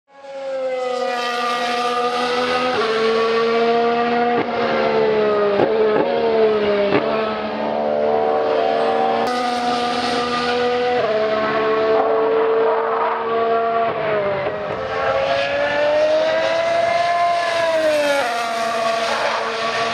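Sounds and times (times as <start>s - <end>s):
racing car engine: 0.1s - 19.9s.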